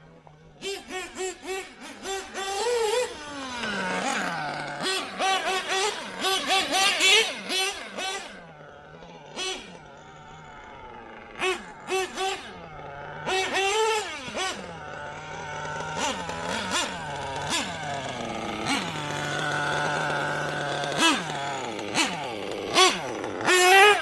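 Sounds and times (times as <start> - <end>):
nitro engine idling and revving: 0.0 - 24.0.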